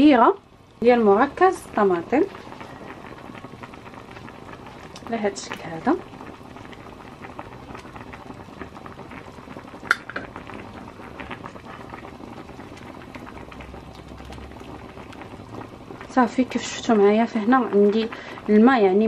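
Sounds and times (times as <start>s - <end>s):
water bubbling in a pan: 0.0s - 19.0s.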